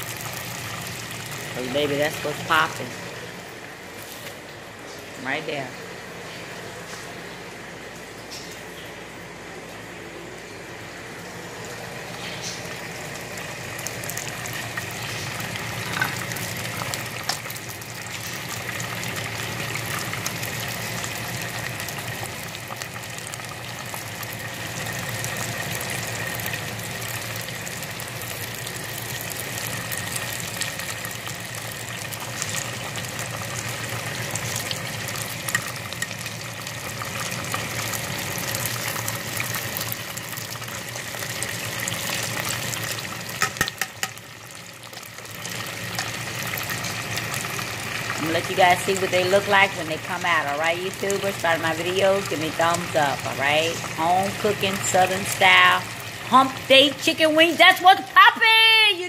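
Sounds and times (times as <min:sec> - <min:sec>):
oil crackling and popping: 0:00.0 - 0:02.8, 0:12.0 - 0:57.6
oil sizzling and bubbling: 0:00.0 - 0:59.0.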